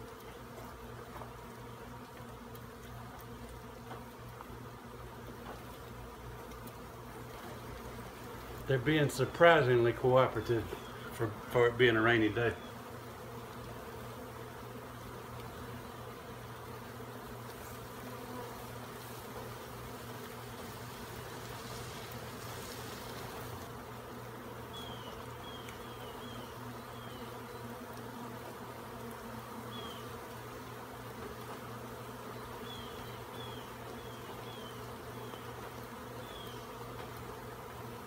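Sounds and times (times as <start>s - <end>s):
honey bees humming: 0.0s - 38.0s.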